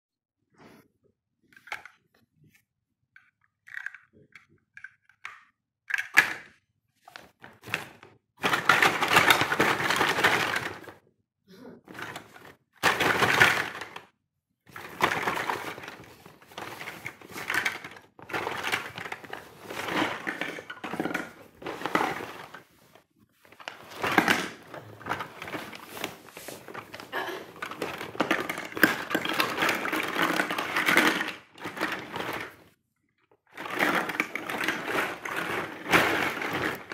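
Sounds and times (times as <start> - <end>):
plastic toy blocks clattering: 1.5 - 2.0, 3.2 - 11.0, 11.9 - 14.1, 14.7 - 32.8, 33.4 - 36.9.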